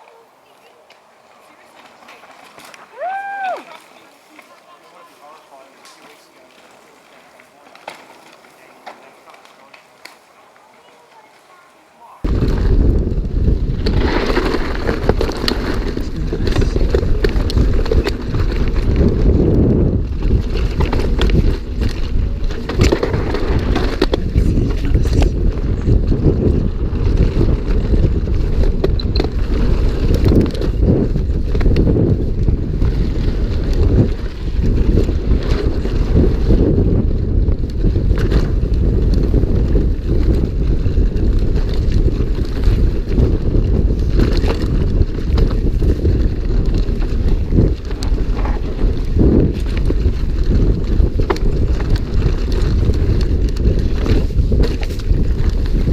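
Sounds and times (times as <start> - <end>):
bike clattering on rough ground: 0.0 - 55.9
wind buffeting microphone: 0.0 - 55.9.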